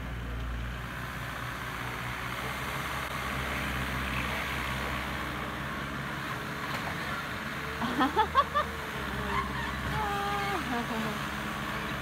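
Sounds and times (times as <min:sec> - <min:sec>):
diesel loader engine running: 0:00.0 - 0:12.0.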